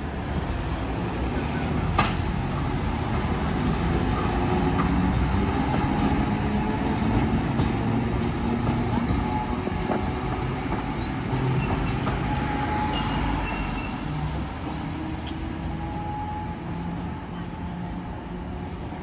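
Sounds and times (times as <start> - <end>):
streetcar wheels rumbling on rail: 0.0 - 19.0.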